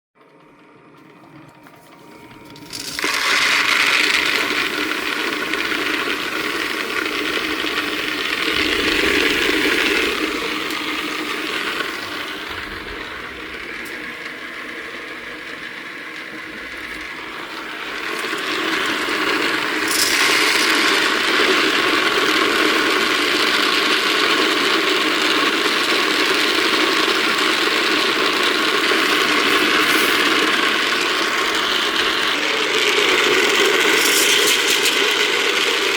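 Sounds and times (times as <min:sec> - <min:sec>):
rotating drum dry clatter: 0:02.5 - 0:23.5, 0:27.1 - 0:35.9.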